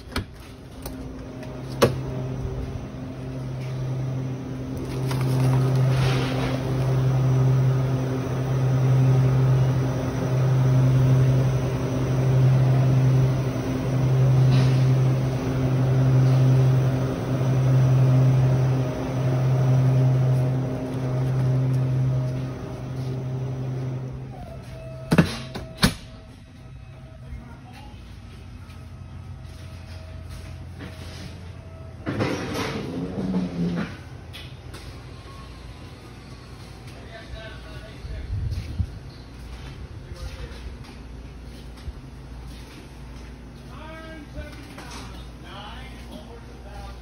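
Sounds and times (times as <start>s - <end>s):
evaporator fans humming: 0.0s - 47.0s.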